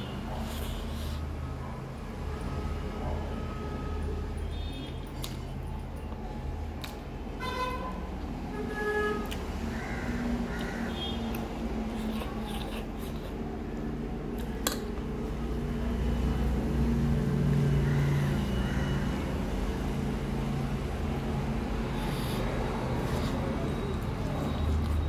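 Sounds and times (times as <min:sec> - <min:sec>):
road traffic rumble: 0:00.0 - 0:25.0
vehicle engine: 0:00.0 - 0:25.0.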